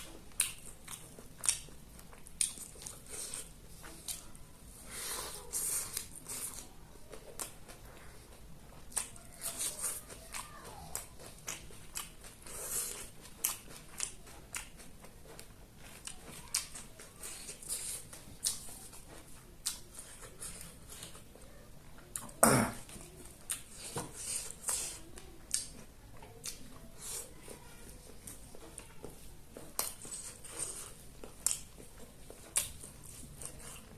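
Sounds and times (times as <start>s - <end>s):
person chewing wetly: 0.0s - 33.9s.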